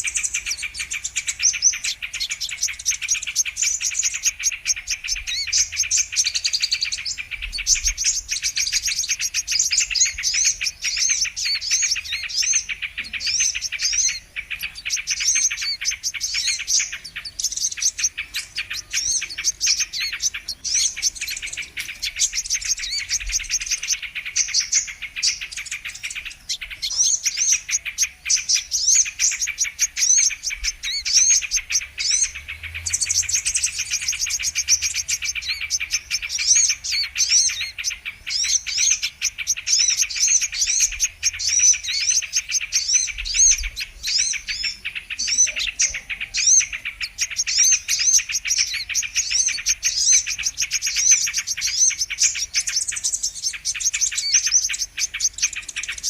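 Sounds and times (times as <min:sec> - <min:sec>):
sunbird chirping and twittering: 0:00.0 - 0:56.0.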